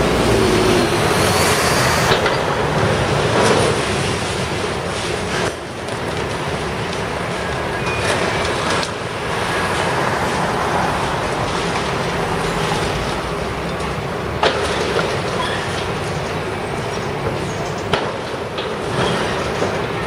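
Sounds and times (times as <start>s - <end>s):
excavator rumbling and clattering: 0.0s - 20.0s.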